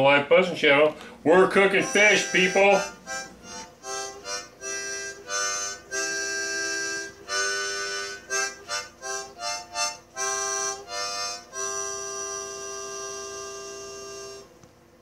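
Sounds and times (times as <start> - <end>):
instrument playing chords: 1.3 - 14.5.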